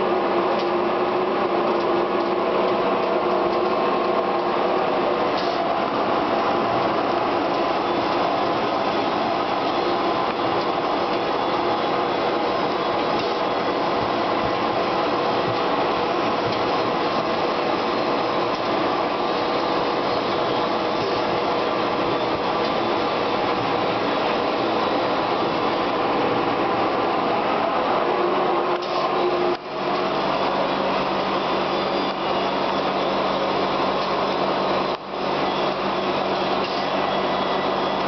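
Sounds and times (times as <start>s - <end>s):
steady machine whine: 0.0s - 38.0s
vacuum conveyor air rushing: 0.0s - 38.0s.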